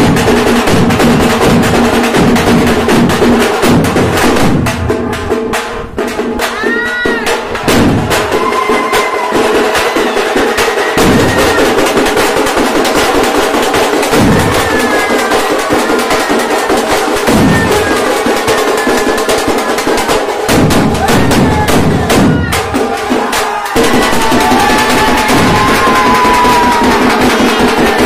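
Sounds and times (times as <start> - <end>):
dance music with fast drumming: 0.0 - 28.0.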